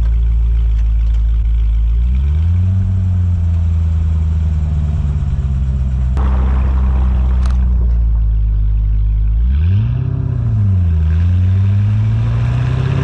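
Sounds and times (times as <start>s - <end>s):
car engine running: 0.0s - 12.4s.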